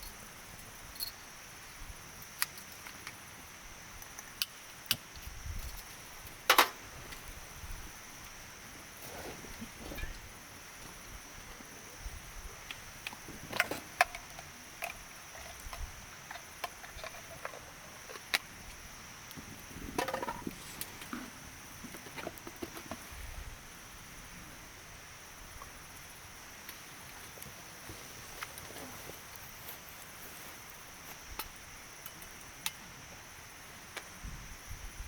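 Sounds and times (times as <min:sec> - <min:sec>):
wood fire crackling and popping: 0:00.0 - 0:23.1, 0:25.6 - 0:32.9.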